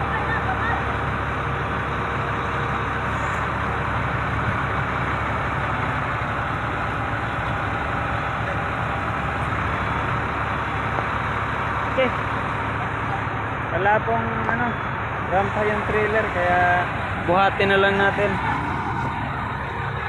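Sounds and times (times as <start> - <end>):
forklift diesel engine running: 0.0 - 20.0.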